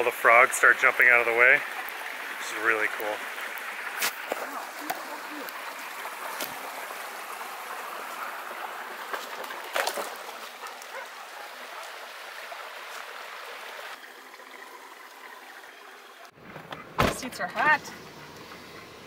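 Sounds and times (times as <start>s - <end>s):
creek flowing over stones: 0.0s - 16.5s, 17.1s - 19.0s.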